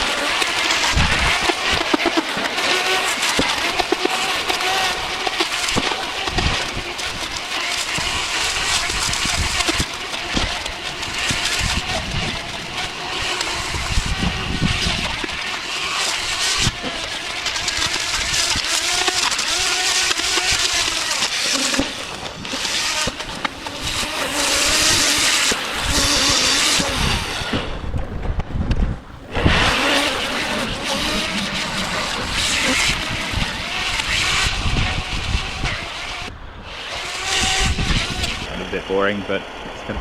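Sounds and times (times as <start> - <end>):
cutting line striking stems: 0.0 - 38.6
brush cutter motor whining: 0.0 - 39.3.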